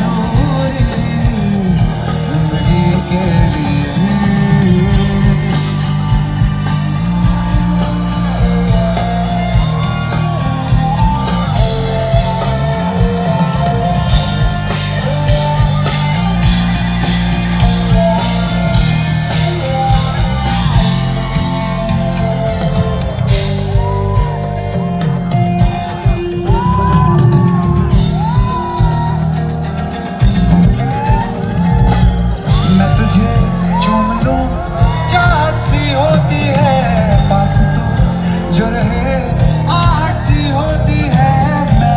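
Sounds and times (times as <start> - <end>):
man singing: 0.0 - 24.5, 30.4 - 41.9
live band music: 0.0 - 41.9.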